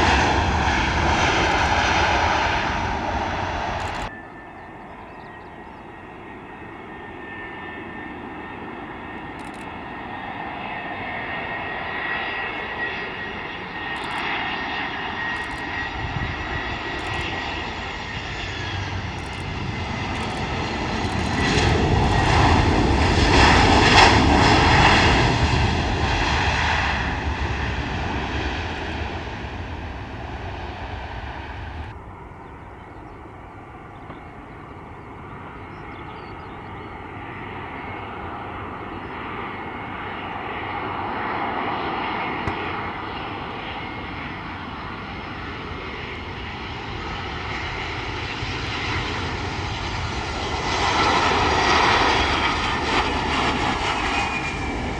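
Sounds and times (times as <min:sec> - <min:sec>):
aircraft engines: 0:00.0 - 0:54.9
airliner engines passing: 0:00.0 - 0:54.9.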